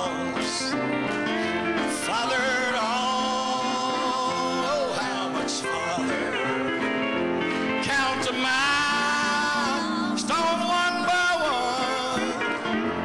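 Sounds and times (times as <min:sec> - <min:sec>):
man singing a hymn: 0:00.0 - 0:13.0
piano accompaniment: 0:00.0 - 0:13.0.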